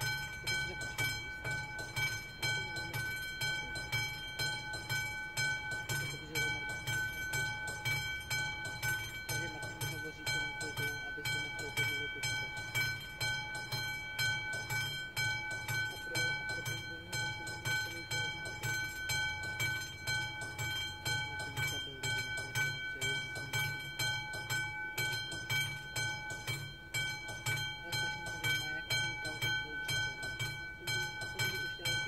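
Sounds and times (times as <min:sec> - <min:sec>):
level crossing warning bell: 0:00.0 - 0:32.0.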